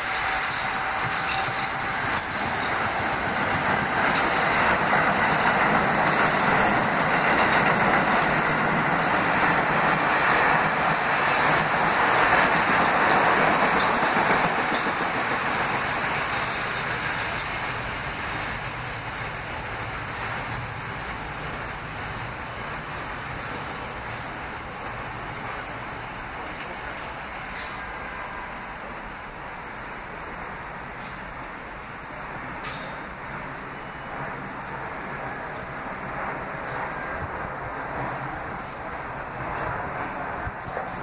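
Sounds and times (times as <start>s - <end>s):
train wheels rushing on rails: 0.0s - 41.0s.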